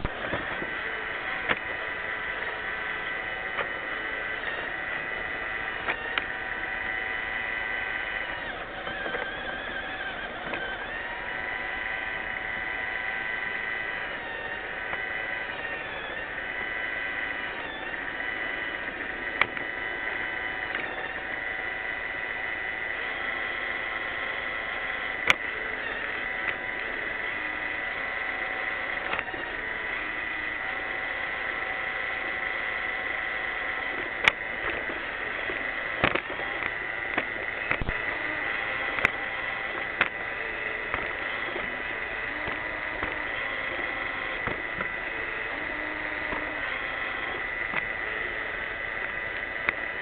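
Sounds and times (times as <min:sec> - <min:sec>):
robot vacuum motor whine: 0:00.0 - 0:50.0.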